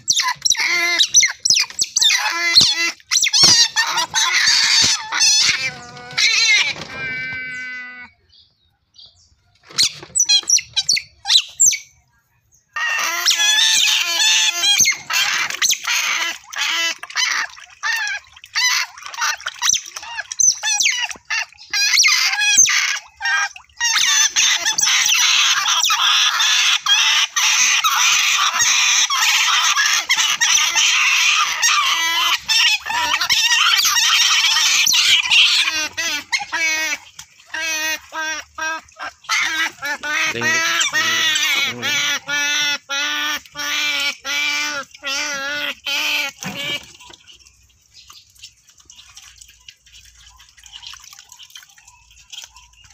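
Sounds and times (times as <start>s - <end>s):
otters squealing: 0.0s - 8.2s, 12.8s - 47.1s.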